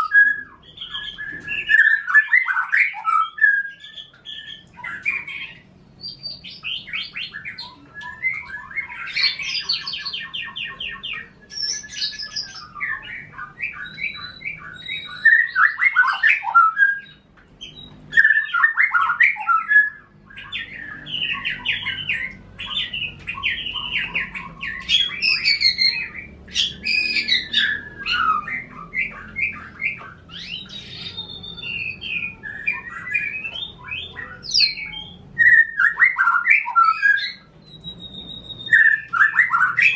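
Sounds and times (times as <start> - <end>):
songbirds singing with trills: 0.0 - 39.9.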